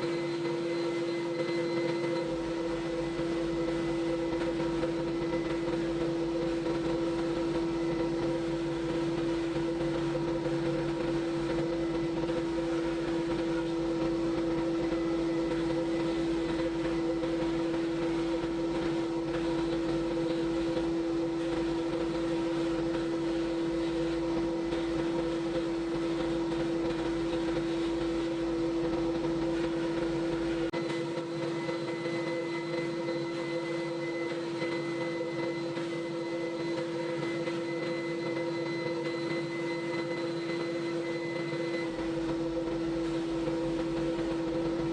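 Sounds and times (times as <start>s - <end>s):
machine humming: 0.0s - 44.9s
thin high whine: 0.0s - 44.9s.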